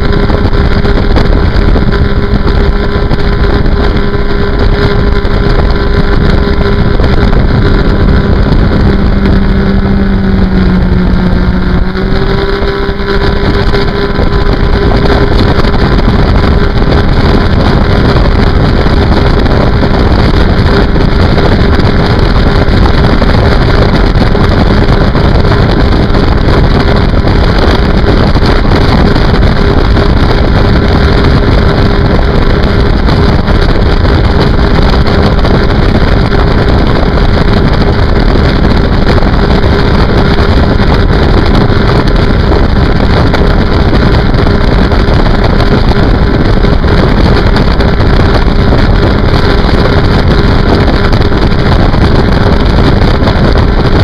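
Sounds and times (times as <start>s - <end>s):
rush of jet wake: 0.0s - 54.0s
watercraft engine drone: 0.0s - 54.0s.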